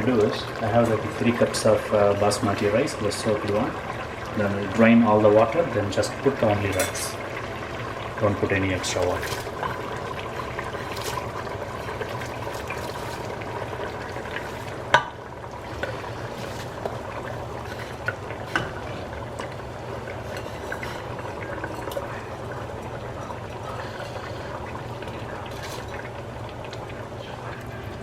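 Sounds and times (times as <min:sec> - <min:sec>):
liquid pouring and bubbling: 0:00.0 - 0:28.0.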